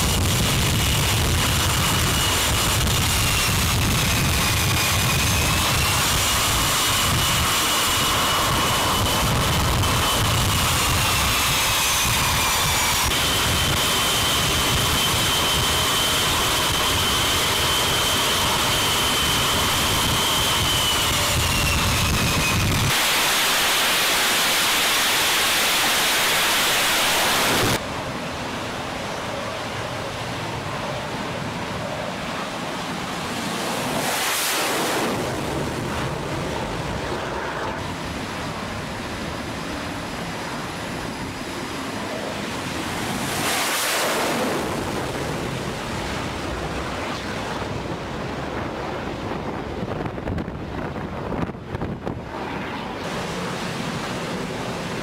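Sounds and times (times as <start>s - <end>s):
jet engines roaring: 0.0s - 55.0s
wind rushing on microphone: 0.0s - 55.0s.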